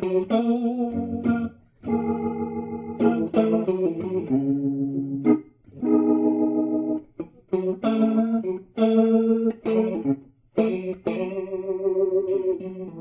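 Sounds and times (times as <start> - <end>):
electric guitar strummed chords: 0.0 - 13.0.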